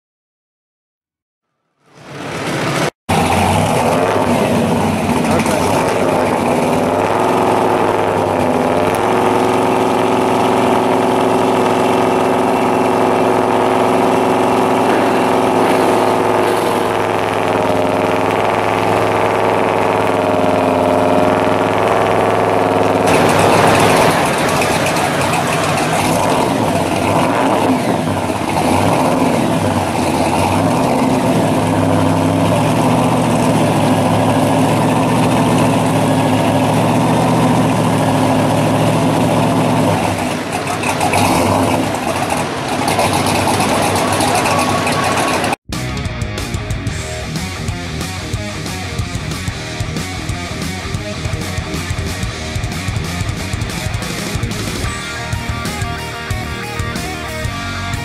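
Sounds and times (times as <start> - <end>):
car engine idling: 1.8 - 58.0.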